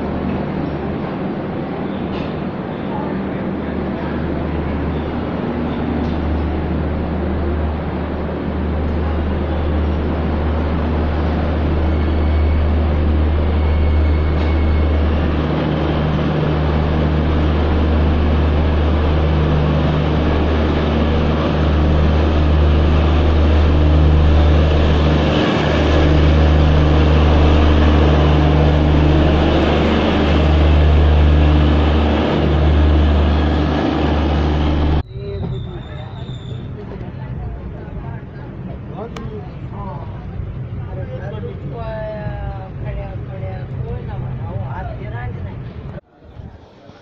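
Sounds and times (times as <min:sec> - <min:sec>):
passing train wheels rumbling: 0:00.0 - 0:47.0.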